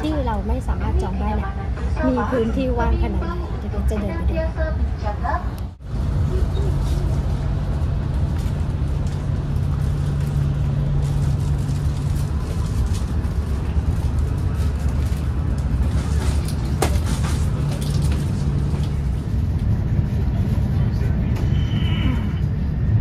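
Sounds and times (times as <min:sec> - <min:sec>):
train rumble inside carriage: 0:00.0 - 0:23.0.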